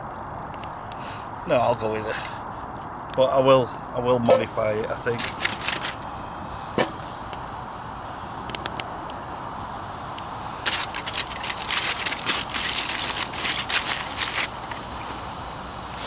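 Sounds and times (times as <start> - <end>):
fire popping: 0.5 - 16.0
wood fire crackling: 0.6 - 16.0.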